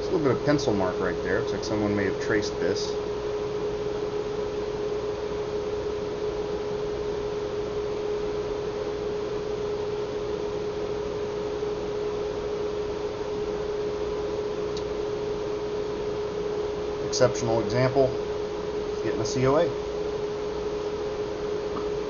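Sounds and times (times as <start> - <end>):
constant hiss: 0.0 - 9.5, 11.1 - 22.0
steady electrical hum: 0.0 - 22.0.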